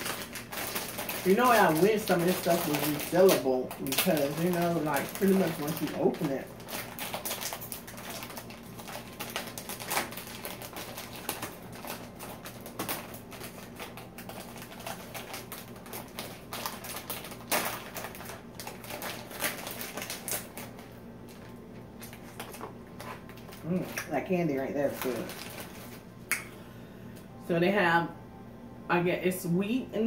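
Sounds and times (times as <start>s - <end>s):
snack bag crinkling: 0.0s - 26.3s.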